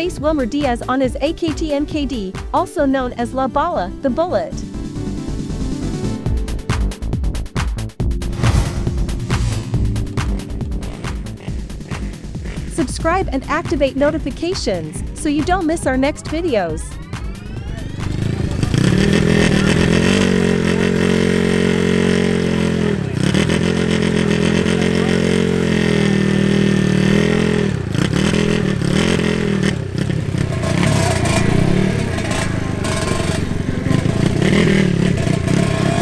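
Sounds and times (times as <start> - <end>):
motorcycle engines revving: 0.0 - 3.0, 8.3 - 36.0.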